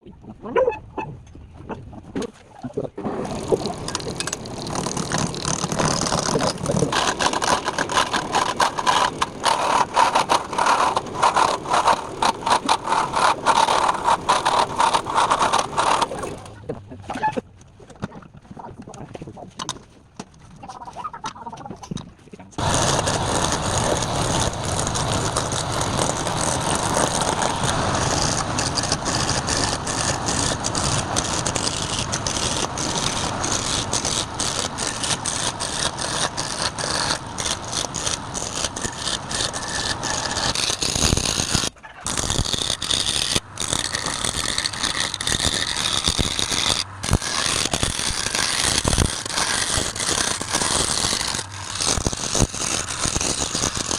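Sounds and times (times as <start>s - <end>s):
lathe tool scraping shell: 3.0s - 16.6s, 22.6s - 53.9s.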